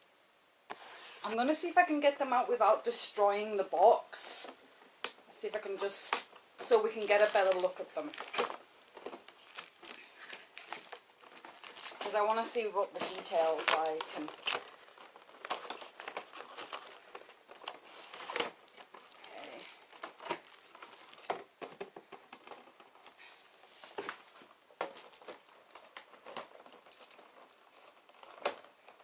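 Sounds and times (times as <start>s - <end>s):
packaging crinkling and rustling: 5.0s - 29.0s.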